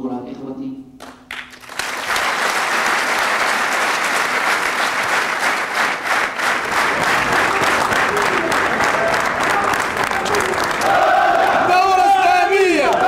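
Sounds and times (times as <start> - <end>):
audience applauding: 1.0 - 13.0.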